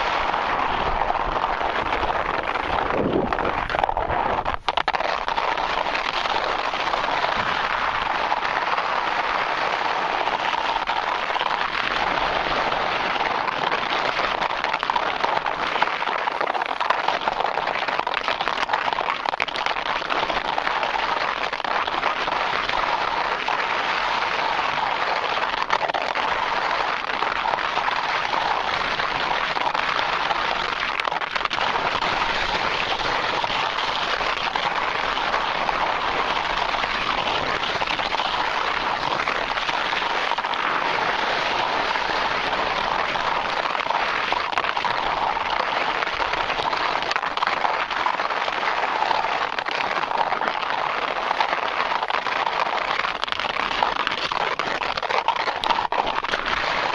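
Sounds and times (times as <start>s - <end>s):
skis scraping over snow: 0.0s - 56.9s.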